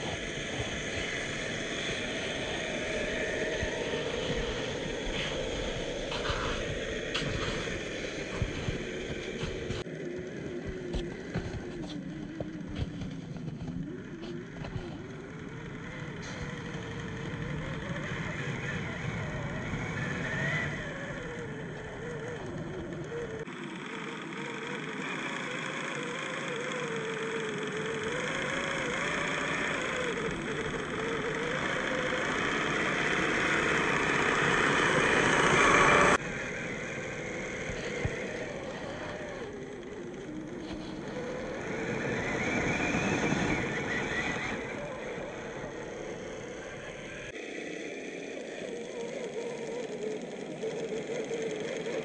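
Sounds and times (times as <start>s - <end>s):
electric motor whining: 0.0s - 52.0s.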